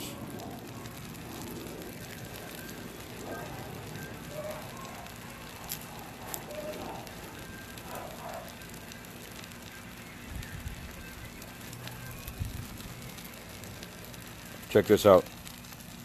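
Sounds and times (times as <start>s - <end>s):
low crackling hiss: 0.0s - 16.0s.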